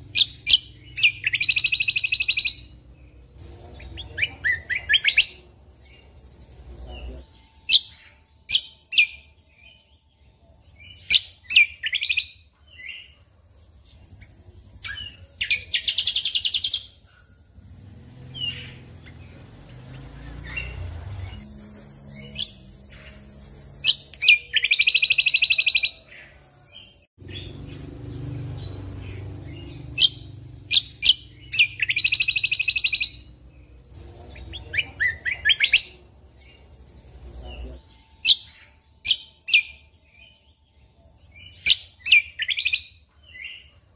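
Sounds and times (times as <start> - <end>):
songbird chirps and trills: 0.0 - 43.9.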